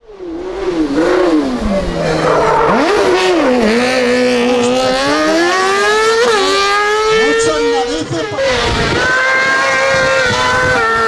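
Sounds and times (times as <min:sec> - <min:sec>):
high-revving car engine: 0:00.0 - 0:11.0.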